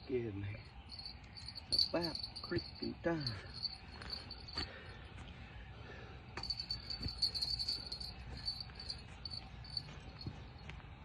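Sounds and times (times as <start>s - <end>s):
crickets chirping: 0.0s - 5.2s, 6.4s - 10.7s.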